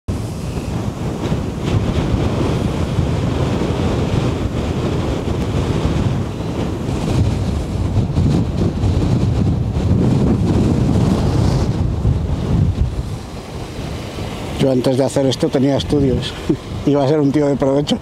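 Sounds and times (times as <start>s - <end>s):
wind buffeting microphone: 0.1s - 18.0s.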